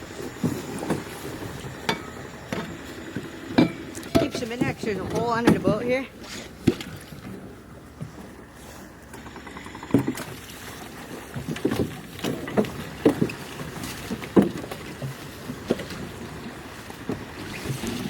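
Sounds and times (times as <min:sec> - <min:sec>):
water washing: 0:00.0 - 0:09.2, 0:10.1 - 0:18.0
knocks and thumps in a boat: 0:00.0 - 0:18.0.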